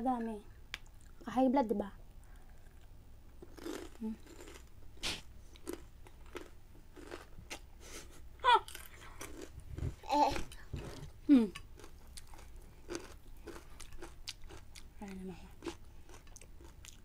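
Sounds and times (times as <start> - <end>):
chewing crunchy snacks: 2.4 - 7.7, 8.6 - 17.0.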